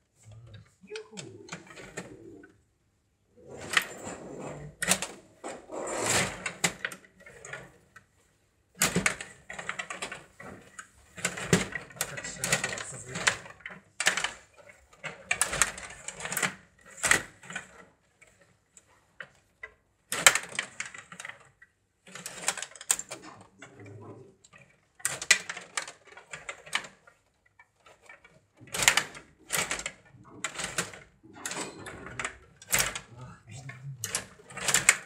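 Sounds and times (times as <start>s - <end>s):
table hockey rods clattering: 3.4s - 33.1s, 34.0s - 35.0s.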